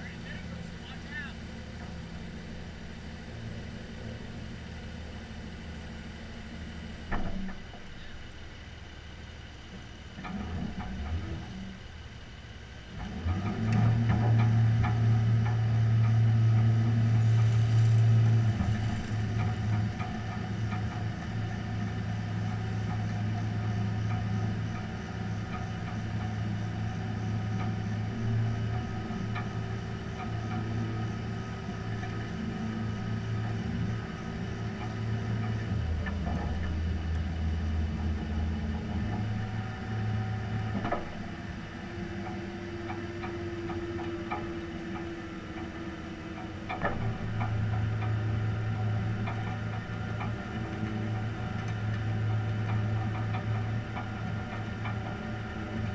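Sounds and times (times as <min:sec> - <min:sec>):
truck engine droning: 0:00.0 - 0:55.9.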